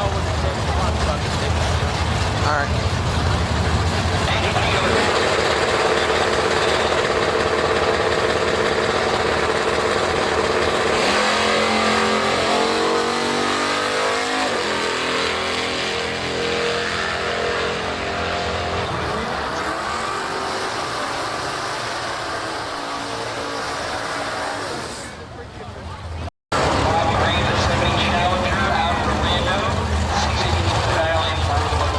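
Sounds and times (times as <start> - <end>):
drag racing cars roaring: 0.0 - 31.9.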